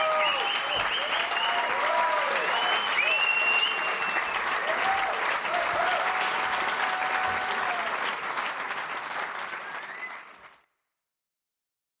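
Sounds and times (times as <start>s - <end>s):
crowd applauding and cheering: 0.0s - 10.7s.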